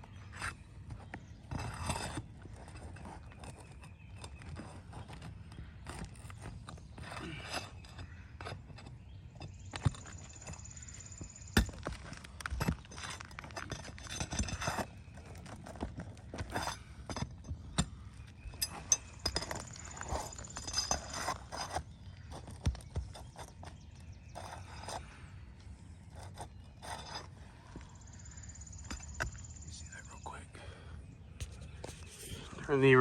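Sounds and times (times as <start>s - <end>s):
tool scraping shingles: 0.1s - 29.6s.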